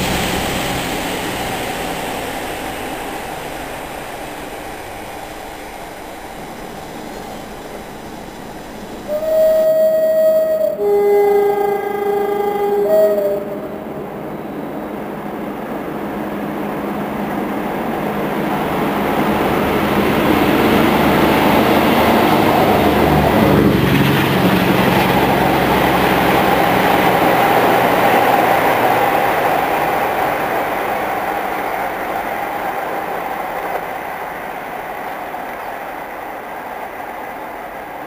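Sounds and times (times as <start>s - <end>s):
diesel locomotives passing: 0.0s - 38.0s.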